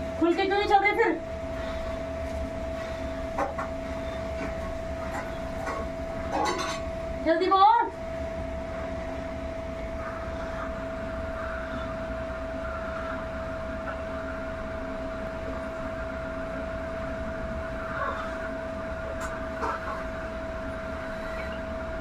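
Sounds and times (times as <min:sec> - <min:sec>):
constant mid-pitched tone: 0:00.0 - 0:22.0
low rumble of machine: 0:00.0 - 0:22.0.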